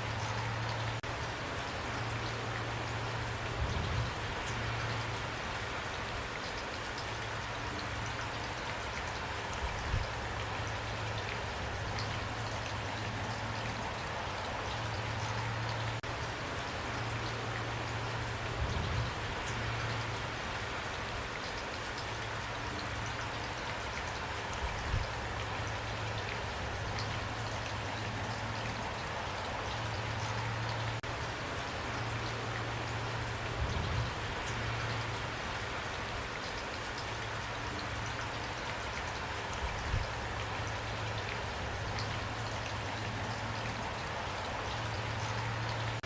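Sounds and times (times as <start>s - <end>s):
steady rain pattering: 0.0s - 46.0s.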